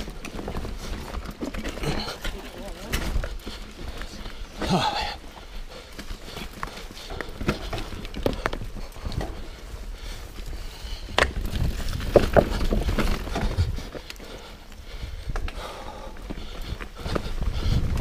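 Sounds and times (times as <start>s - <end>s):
bike knocking and rattling: 0.0s - 18.0s
tyres rumbling on rocky trail: 0.0s - 18.0s
wind: 0.0s - 18.0s.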